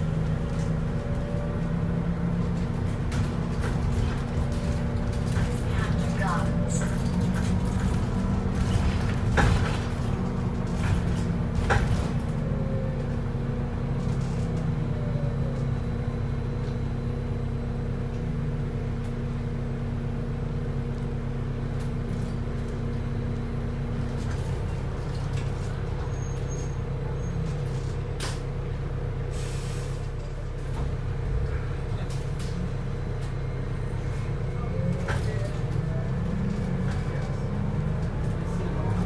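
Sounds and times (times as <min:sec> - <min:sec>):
bus engine drone: 0:00.0 - 0:39.0.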